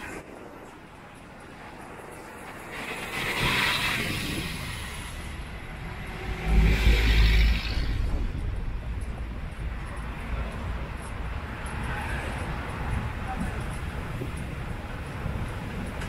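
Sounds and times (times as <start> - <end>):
carriages rolling: 0.0 - 16.0.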